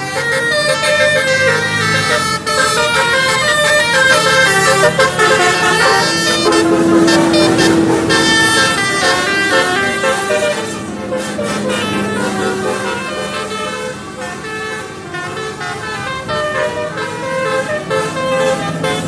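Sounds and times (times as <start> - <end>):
musical bus air horns playing a tune: 0.0 - 19.0.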